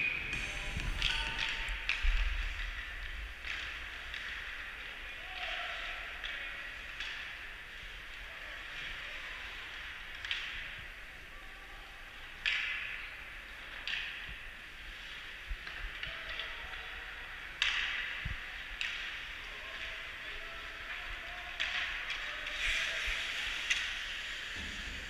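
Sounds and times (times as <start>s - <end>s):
hockey sticks hitting puck: 1.0s - 10.8s, 12.1s - 24.6s.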